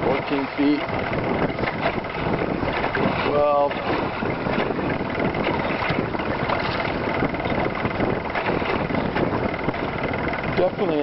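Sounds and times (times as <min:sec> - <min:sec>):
outboard motor running: 0:00.0 - 0:11.0
wind noise on microphone: 0:00.0 - 0:11.0.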